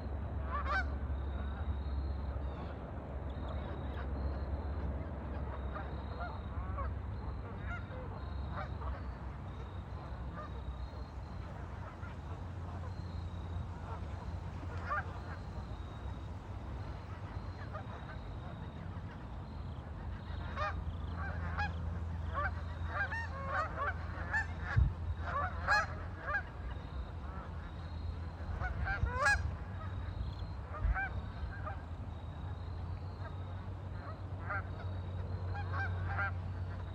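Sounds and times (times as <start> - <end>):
steady low hum: 0.0 - 36.9
waterfowl calling: 5.4 - 36.9.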